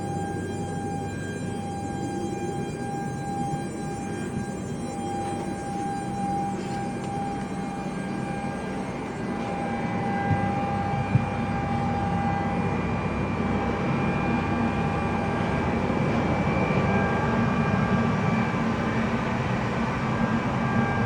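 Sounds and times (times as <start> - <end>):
airliner cabin drone: 0.0 - 21.0
faint whining tones: 0.0 - 21.0.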